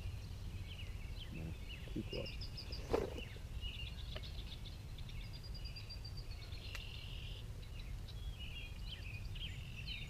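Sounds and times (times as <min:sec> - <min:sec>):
small birds chirping and trilling: 0:00.0 - 0:10.0.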